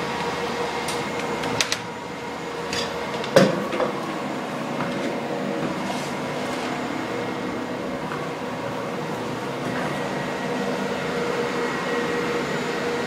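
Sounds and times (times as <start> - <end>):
server cooling fans whining: 0.0 - 13.0.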